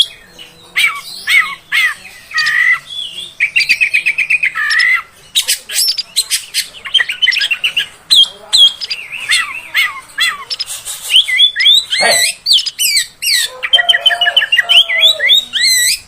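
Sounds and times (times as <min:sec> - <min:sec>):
bird singing whistled phrases: 0:00.8 - 0:16.0.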